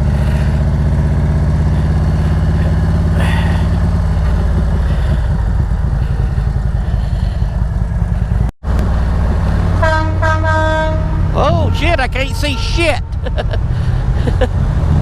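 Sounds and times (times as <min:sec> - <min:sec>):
motorcycle engine while riding: 0:00.0 - 0:11.8, 0:13.0 - 0:15.0.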